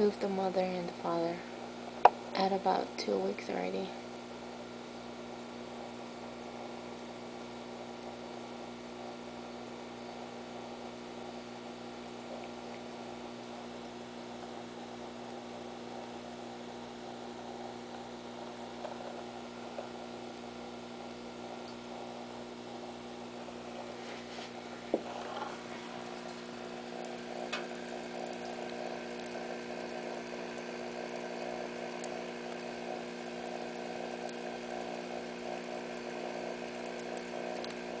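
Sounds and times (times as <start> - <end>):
aquarium air pump humming: 0.0 - 38.0.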